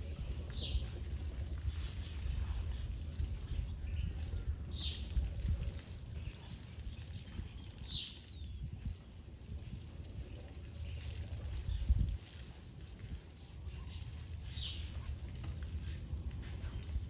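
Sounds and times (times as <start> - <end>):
birds chirping: 0.0 - 17.0
steady low rumbling: 0.0 - 17.0.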